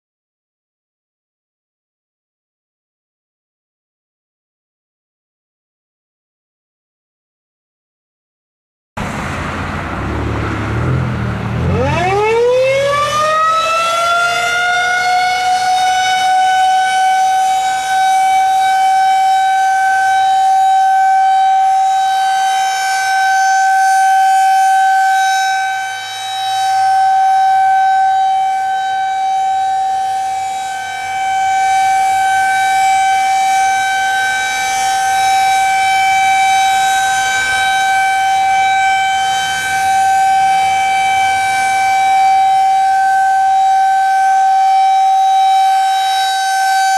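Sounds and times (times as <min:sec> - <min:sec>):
tornado warning siren wailing: 0:09.0 - 0:46.9.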